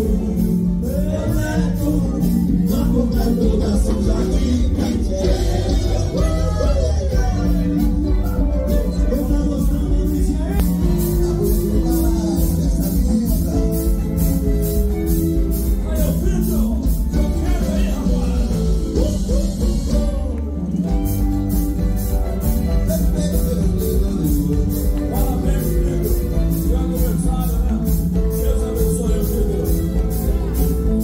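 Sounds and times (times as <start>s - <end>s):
men singing: 0.0s - 31.0s
percussion beat: 0.0s - 31.0s.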